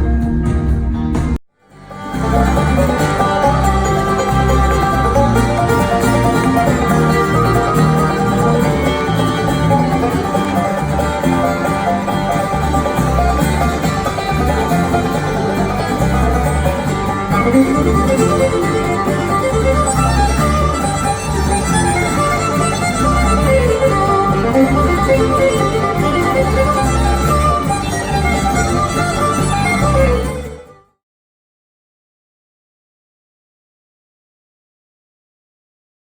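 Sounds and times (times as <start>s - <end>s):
steady bass: 0.0s - 30.6s
banjo: 0.0s - 31.0s
fiddle: 1.7s - 31.0s.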